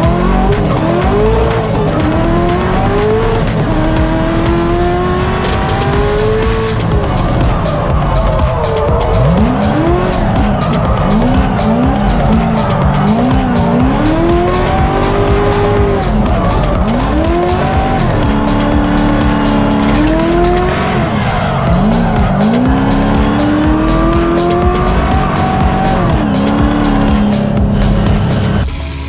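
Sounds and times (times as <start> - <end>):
music with fast beat: 0.0 - 21.0, 21.7 - 29.0
car engine revving hard: 0.0 - 28.6.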